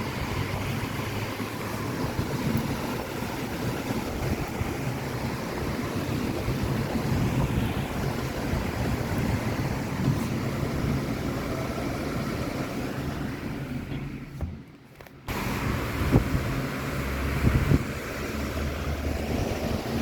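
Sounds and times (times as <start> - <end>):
storm wind buffeting microphone: 0.0 - 12.8, 15.3 - 20.0.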